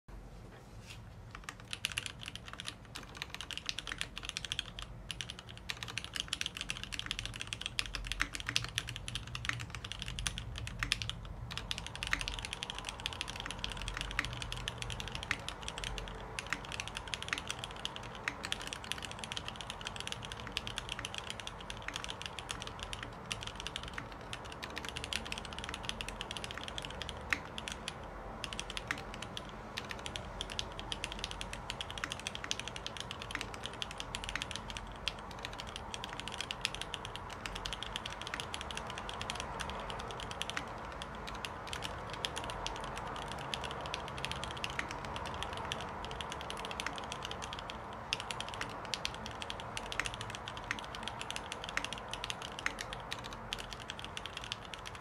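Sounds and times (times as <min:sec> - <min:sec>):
mechanical keyboard typing: 0:01.3 - 0:55.0.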